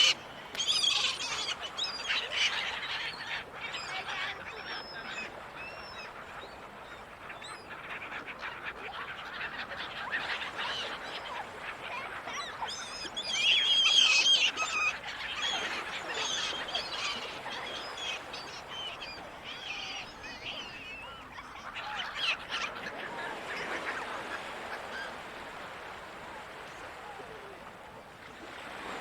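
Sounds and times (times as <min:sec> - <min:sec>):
gulls calling: 0:00.0 - 0:06.5, 0:09.8 - 0:27.7.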